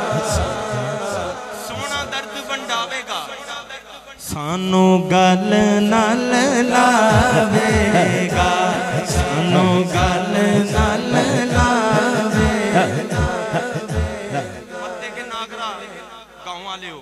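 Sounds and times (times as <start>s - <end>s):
man singing through a microphone: 0.0s - 16.2s.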